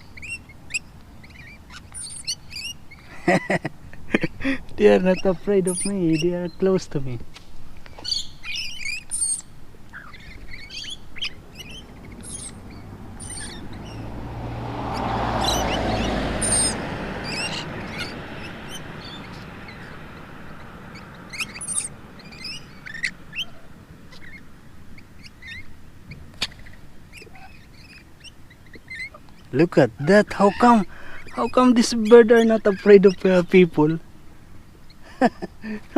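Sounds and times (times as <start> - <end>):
lorikeets chirping and squeaking: 0.0 - 14.2, 14.9 - 35.9.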